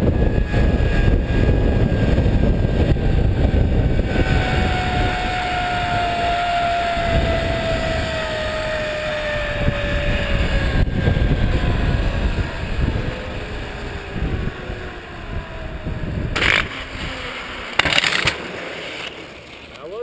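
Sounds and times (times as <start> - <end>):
zipline pulleys whining on cable: 0.0 - 19.8
wind rumble on microphone: 0.0 - 20.0.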